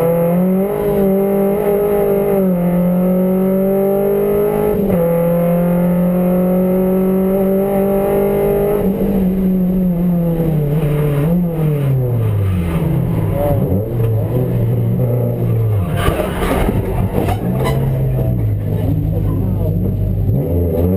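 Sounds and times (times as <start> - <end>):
race car engine from inside cabin: 0.0 - 20.9.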